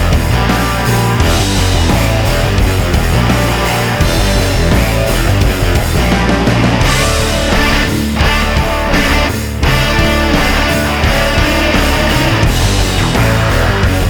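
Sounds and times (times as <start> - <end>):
rock music with distorted guitar: 0.0 - 14.0.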